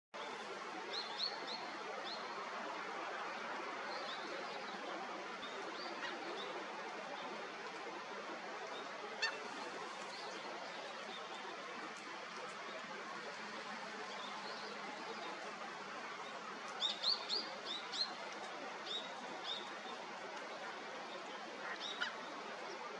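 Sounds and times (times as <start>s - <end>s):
river water flowing: 0.2s - 22.9s.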